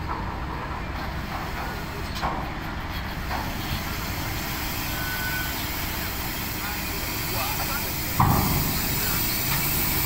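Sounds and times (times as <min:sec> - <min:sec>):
truck diesel engine rumbling: 0:00.0 - 0:10.0
brakes squealing: 0:00.8 - 0:10.0.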